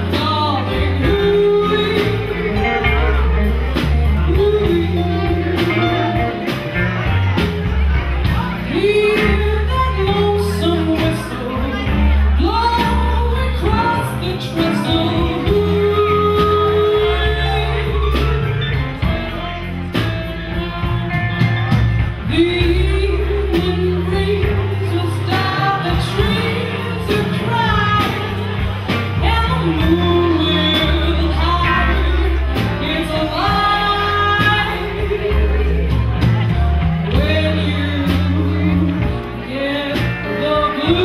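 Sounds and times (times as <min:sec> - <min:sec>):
band playing: 0:00.0 - 0:41.0
drums and cymbals: 0:00.0 - 0:41.0
woman singing into a microphone: 0:00.0 - 0:41.0.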